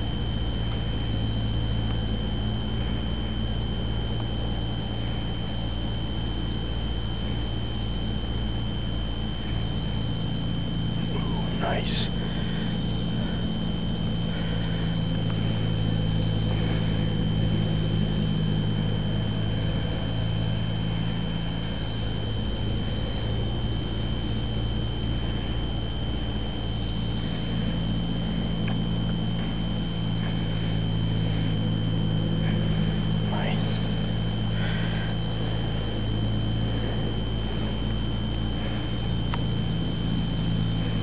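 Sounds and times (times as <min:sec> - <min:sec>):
crickets chirping: 0:00.0 - 0:41.0
high whine: 0:00.0 - 0:41.0
low hum: 0:00.0 - 0:41.0.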